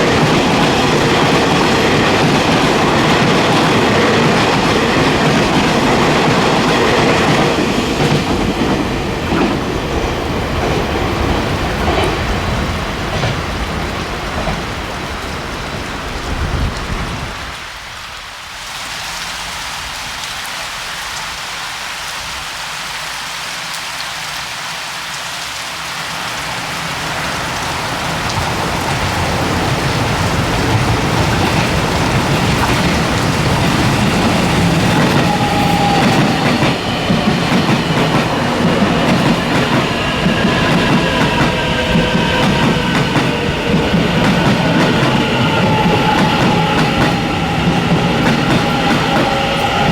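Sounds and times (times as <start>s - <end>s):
train wheels rushing on rails: 0.0s - 17.6s, 25.7s - 49.9s
train whining tones: 0.0s - 17.6s, 26.1s - 49.9s.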